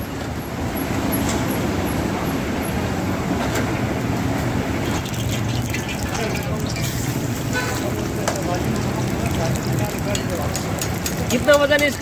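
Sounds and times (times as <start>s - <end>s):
gas burner roaring: 0.7s - 11.9s.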